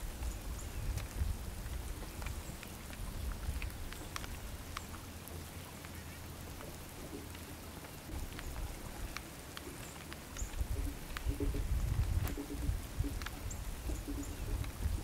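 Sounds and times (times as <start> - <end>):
steady low rumble: 0.0 - 7.4, 10.1 - 15.0
drops ticking on surface: 0.0 - 15.0.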